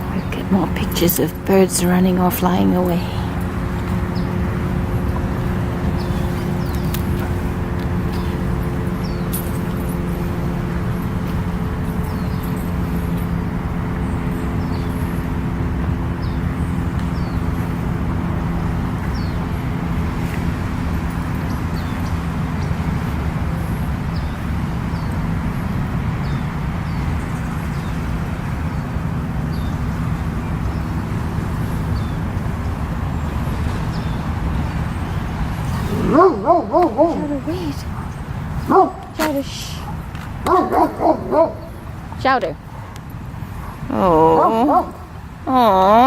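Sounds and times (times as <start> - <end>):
passing vehicle engine hum: 0.0 - 46.0
road traffic noise: 0.0 - 46.0.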